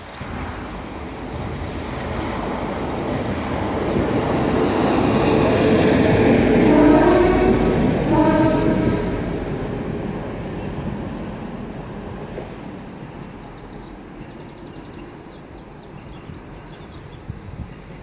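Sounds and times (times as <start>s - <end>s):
train rumbling and rattling: 0.0s - 18.0s.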